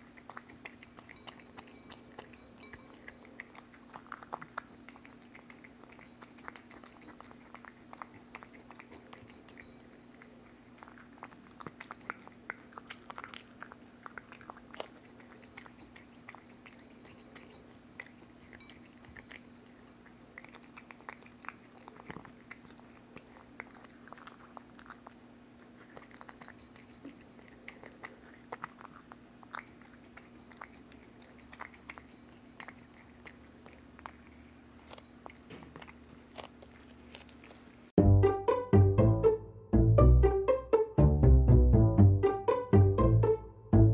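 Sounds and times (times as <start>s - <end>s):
cat licking and chewing food: 0.0s - 38.0s.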